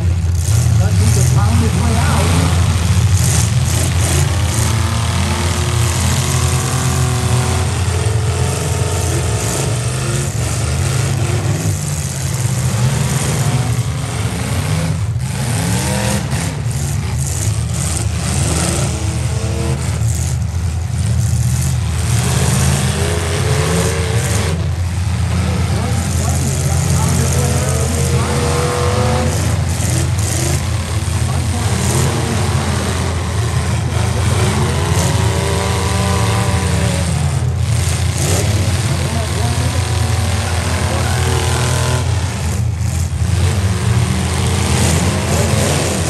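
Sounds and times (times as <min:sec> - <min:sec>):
truck engines revving: 0:00.0 - 0:46.0.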